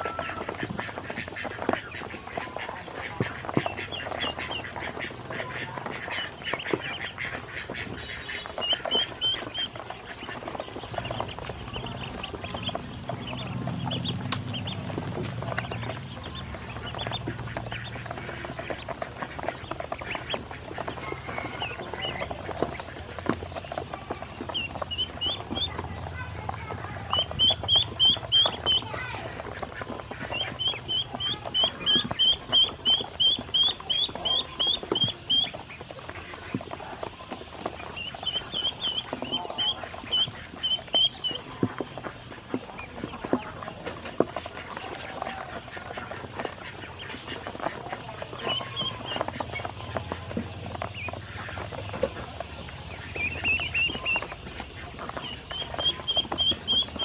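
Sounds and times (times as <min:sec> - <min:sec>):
bills pecking on plastic basin: 0:00.0 - 0:57.0
ducklings peeping: 0:00.0 - 0:57.0.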